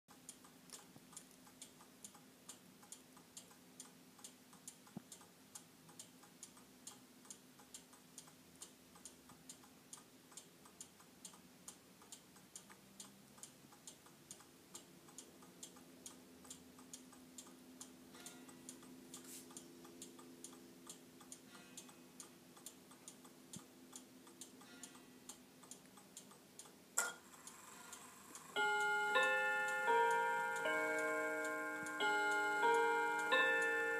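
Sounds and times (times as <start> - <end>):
clock ticking softly: 0.1 - 33.9.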